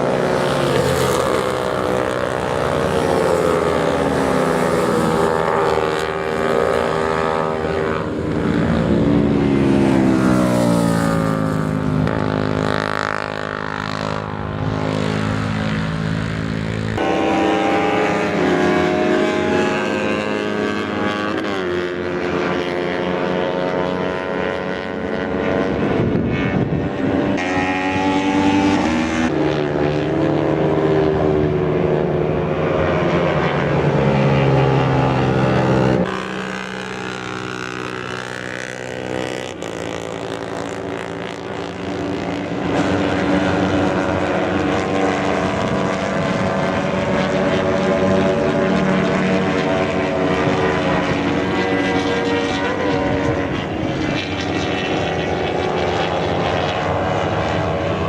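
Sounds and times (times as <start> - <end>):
racing motorcycle engines at high revs: 0.0 - 58.0.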